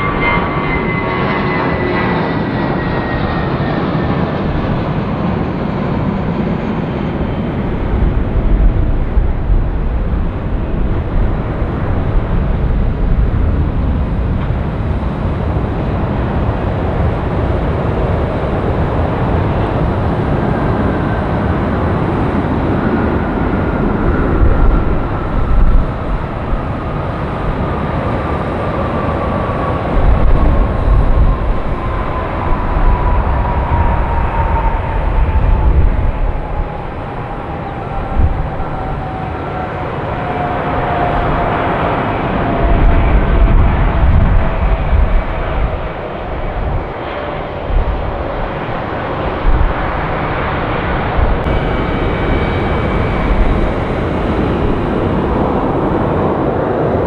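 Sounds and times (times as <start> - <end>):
jet engines roaring with whine: 0.0 - 57.0.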